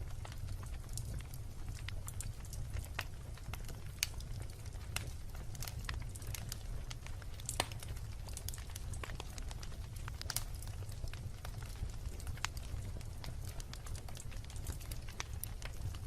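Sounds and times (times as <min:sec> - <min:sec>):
bonfire crackling and popping: 0:00.0 - 0:16.0
low fire rumble: 0:00.0 - 0:16.0.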